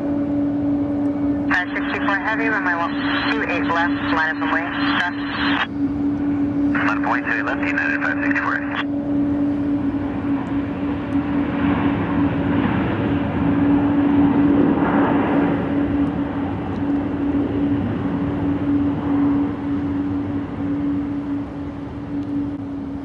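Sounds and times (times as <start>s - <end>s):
jet airliner engines passing: 0.0s - 23.0s
steady droning tone: 0.0s - 23.0s.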